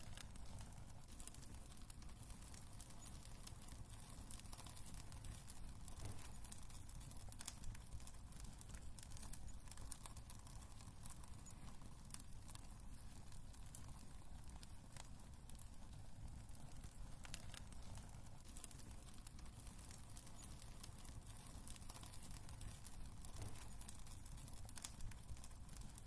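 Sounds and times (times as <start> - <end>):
low rumble of flames: 0.0 - 26.0
wood fire crackling: 0.0 - 26.0.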